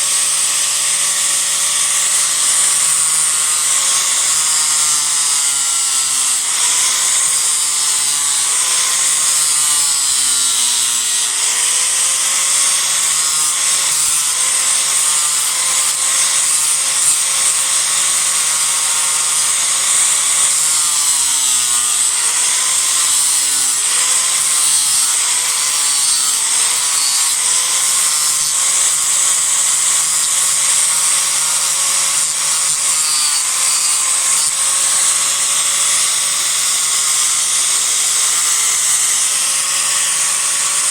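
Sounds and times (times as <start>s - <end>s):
disc grinder motor whine: 0.0s - 40.9s.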